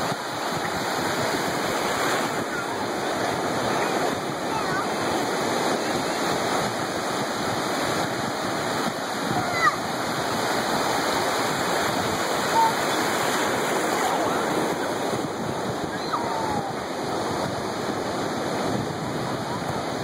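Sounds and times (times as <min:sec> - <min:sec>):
waves breaking on shore: 0:00.0 - 0:20.0
faint voices: 0:00.2 - 0:07.7, 0:09.0 - 0:20.0.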